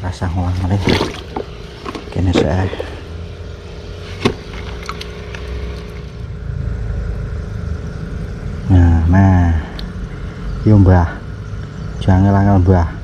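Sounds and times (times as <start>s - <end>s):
motor running: 0.4s - 11.9s.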